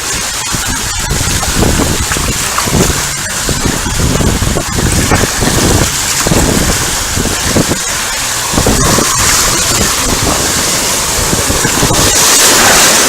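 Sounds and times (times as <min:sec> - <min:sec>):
wind buffeting microphone: 0:00.0 - 0:13.0
low thumps of gusts: 0:00.8 - 0:12.2.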